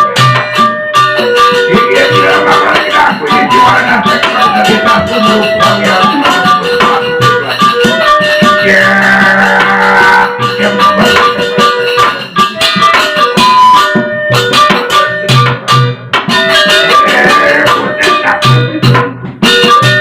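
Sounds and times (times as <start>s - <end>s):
deep drum beats: 0.0s - 20.0s
percussion ensemble music: 0.0s - 20.0s.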